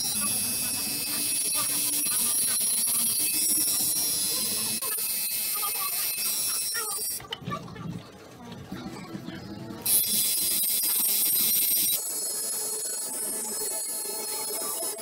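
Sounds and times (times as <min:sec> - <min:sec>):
tattoo machine buzzing: 0:00.0 - 0:07.2, 0:09.8 - 0:15.0.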